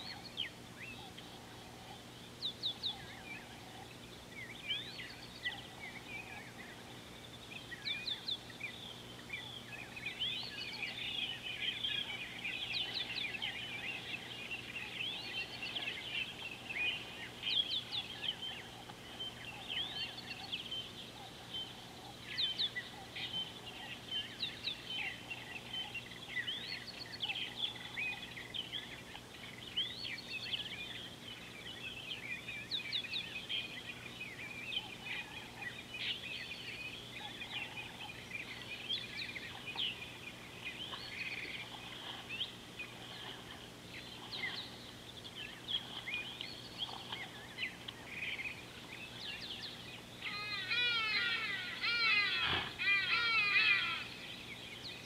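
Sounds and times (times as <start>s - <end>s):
birds chirping chorus: 0.0s - 55.0s.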